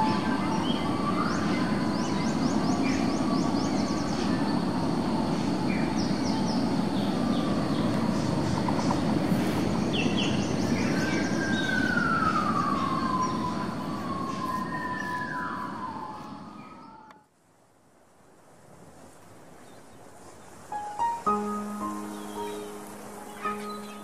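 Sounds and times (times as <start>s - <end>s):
high insect drone: 0.0s - 17.0s, 20.2s - 24.0s
low steady rush: 0.0s - 24.0s.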